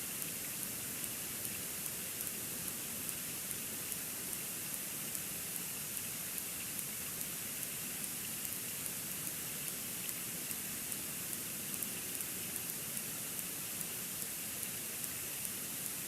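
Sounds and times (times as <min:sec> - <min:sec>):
faint light ticks: 0:00.1 - 0:16.0.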